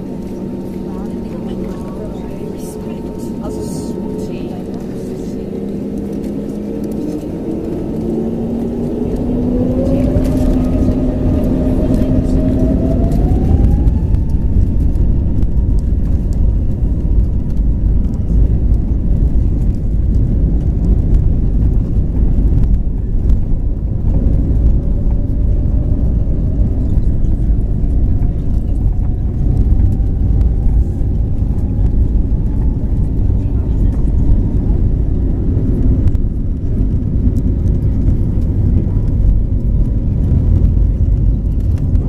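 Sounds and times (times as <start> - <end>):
airplane cabin rumble: 0.0 - 42.0
jet engine drone: 0.0 - 42.0.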